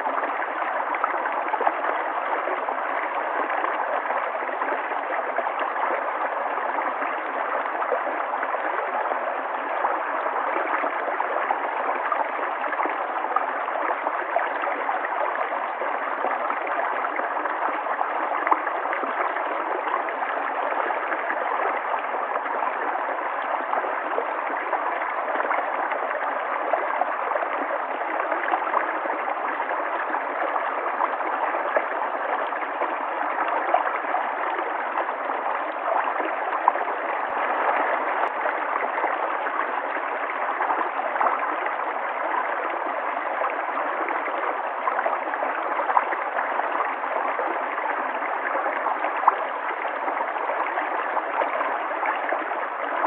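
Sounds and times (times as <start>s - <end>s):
river water flowing over rocks: 0.0s - 53.0s.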